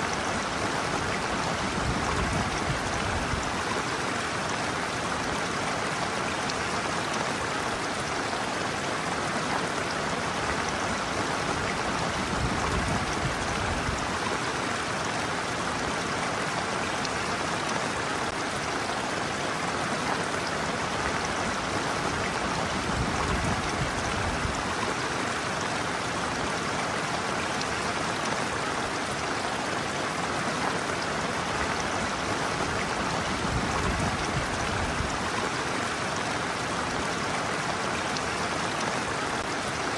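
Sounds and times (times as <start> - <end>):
stream water rushing around feet: 0.0 - 39.9.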